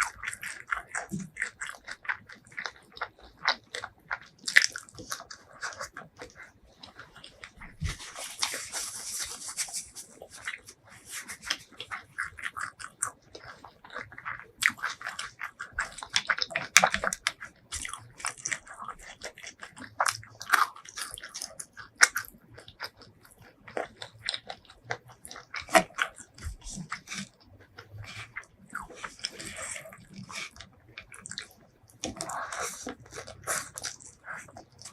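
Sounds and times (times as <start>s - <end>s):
chewing crispy fried food: 0.0s - 34.9s.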